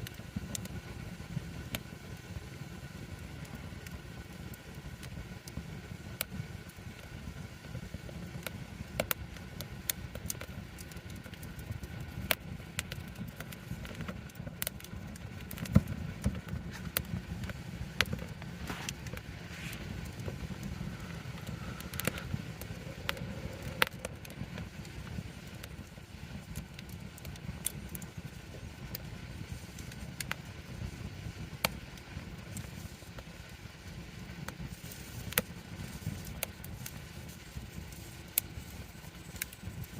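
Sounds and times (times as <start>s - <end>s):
campfire crackling and popping: 0.0s - 39.9s
low steady fire rumble: 0.0s - 39.9s.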